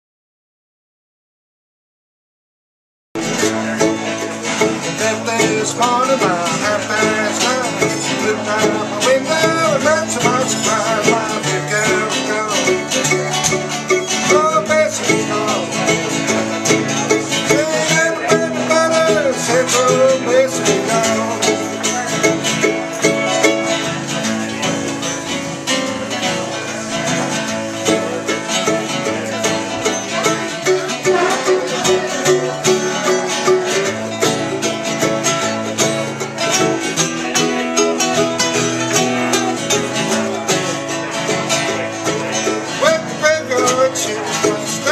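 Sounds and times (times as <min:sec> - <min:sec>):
bluegrass music: 0:03.2 - 0:44.9
guitar: 0:03.2 - 0:44.9
picked banjo: 0:03.2 - 0:44.9.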